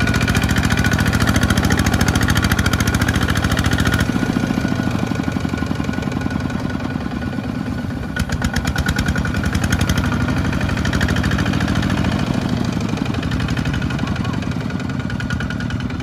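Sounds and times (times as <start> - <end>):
diesel engine chugging under load: 0.0 - 16.0.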